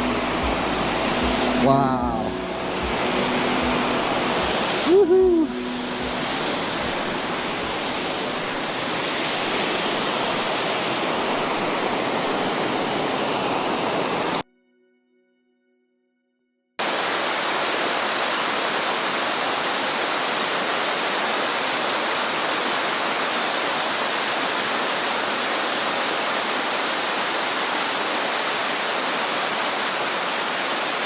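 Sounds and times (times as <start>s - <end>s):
waterfall pouring: 0.0s - 14.4s, 16.8s - 31.0s.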